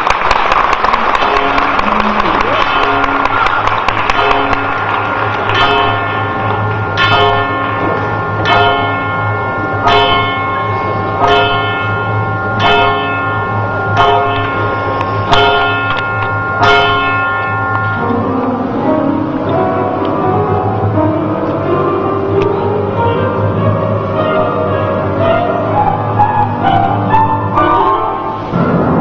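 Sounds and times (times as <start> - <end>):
steady low hum: 1.0 - 29.0
deep clock bell striking: 1.2 - 29.0.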